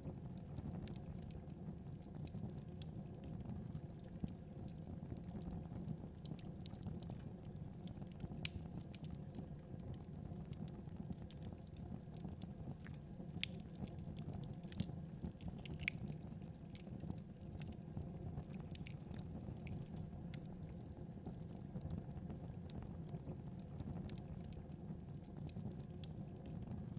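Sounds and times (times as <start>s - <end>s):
wood fire crackling: 0.1s - 26.9s.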